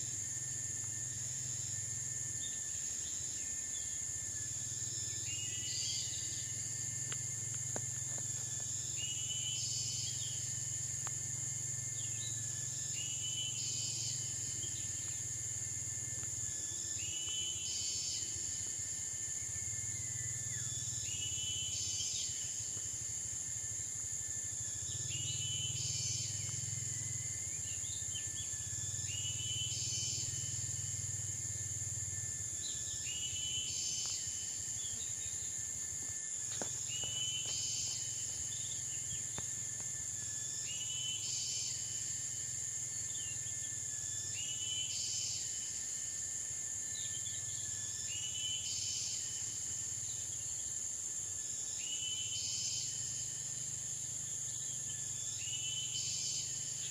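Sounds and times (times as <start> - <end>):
high-pitched insect drone: 0.0 - 56.9.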